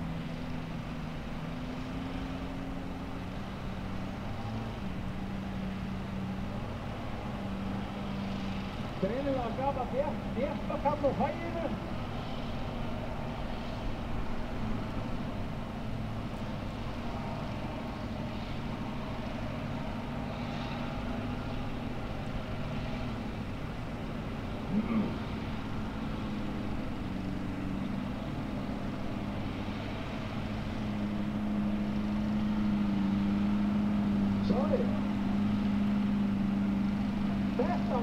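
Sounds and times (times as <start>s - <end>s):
buggy engine running: 0.0s - 38.0s.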